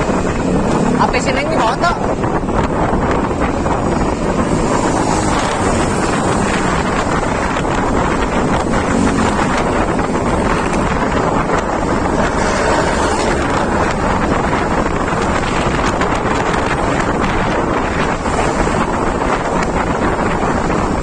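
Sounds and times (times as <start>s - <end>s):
vehicle road noise: 0.0s - 21.0s
wind buffeting microphone: 0.0s - 21.0s.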